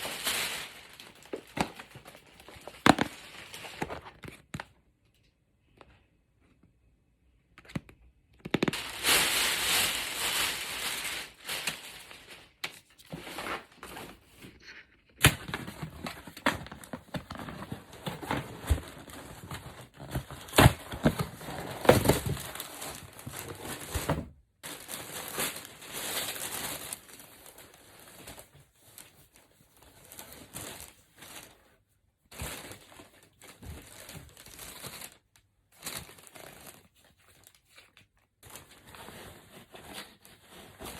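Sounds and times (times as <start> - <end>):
plastic packaging crinkling: 0.0 - 4.3, 8.5 - 31.6, 32.3 - 40.9.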